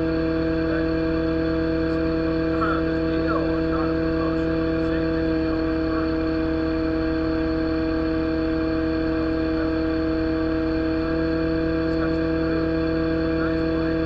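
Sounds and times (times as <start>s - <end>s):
excavator engine droning: 0.0s - 14.0s.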